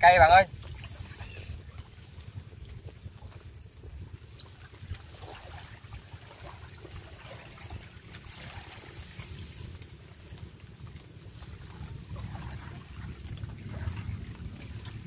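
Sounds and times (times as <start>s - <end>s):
water lapping: 0.0s - 15.0s
wind buffeting microphone: 0.0s - 15.0s.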